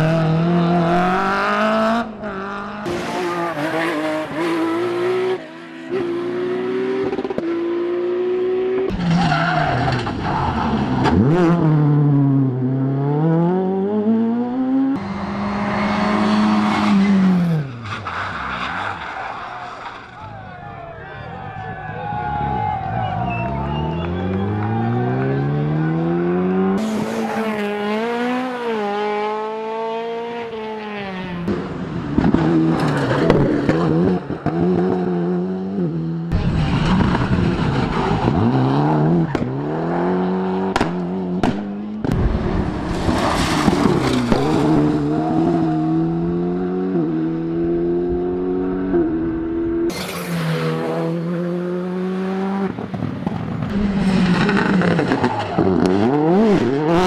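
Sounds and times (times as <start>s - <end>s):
rally car engines revving: 0.0s - 20.2s, 22.0s - 57.0s
cars rushing past: 0.0s - 57.0s.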